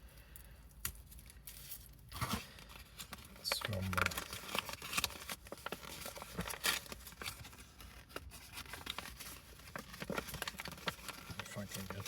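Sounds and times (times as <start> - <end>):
packaging rustling and crinkling: 0.9 - 12.0.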